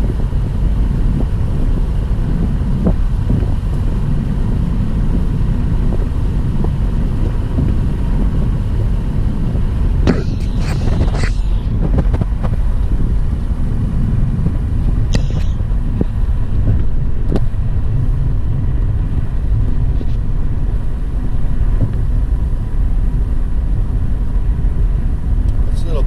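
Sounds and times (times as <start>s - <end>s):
car road noise rumble: 0.0s - 26.0s.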